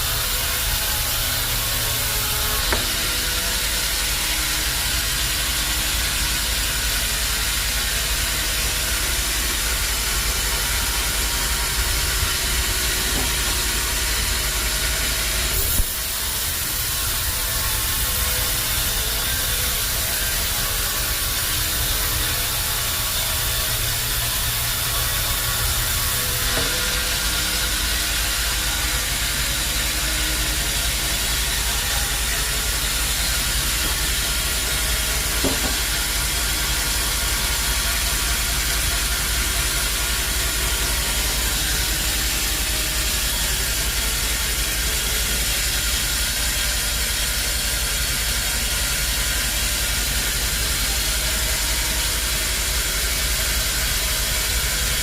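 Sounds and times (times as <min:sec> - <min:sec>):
bandsaw running: 0:00.0 - 0:55.0.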